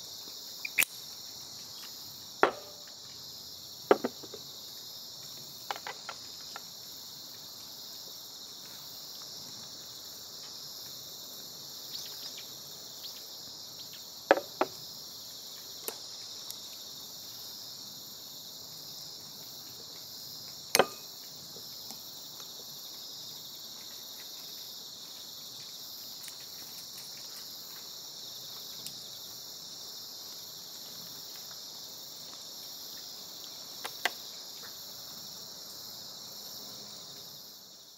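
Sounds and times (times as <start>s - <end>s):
crickets chirring: 0.0s - 37.9s.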